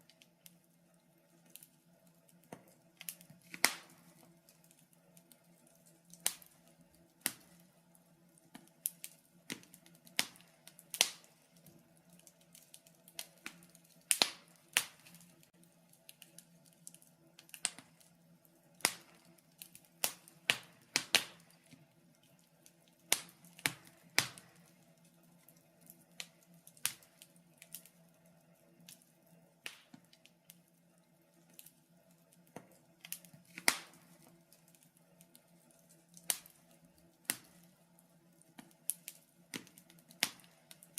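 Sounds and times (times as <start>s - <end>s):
wood fire crackling: 0.0s - 40.9s
sharp pops and snaps: 1.4s - 28.0s, 28.8s - 30.7s, 31.4s - 37.8s, 38.4s - 40.9s.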